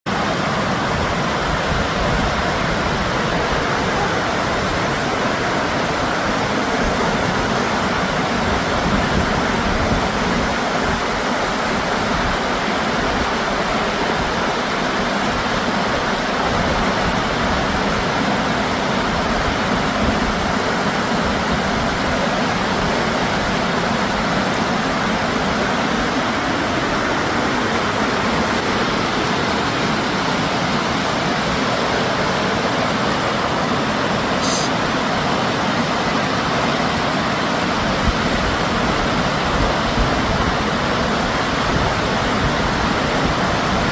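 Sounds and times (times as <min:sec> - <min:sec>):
river rapids rushing: 0:00.1 - 0:43.9.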